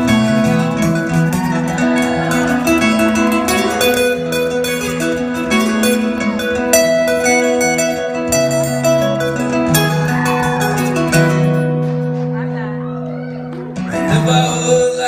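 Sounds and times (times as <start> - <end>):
acoustic country music: 0.0 - 15.0.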